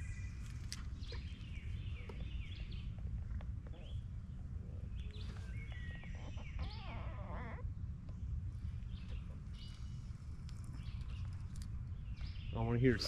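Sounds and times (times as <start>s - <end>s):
birds chirping and calling: 0.0s - 13.0s
low steady rumble: 0.0s - 13.0s.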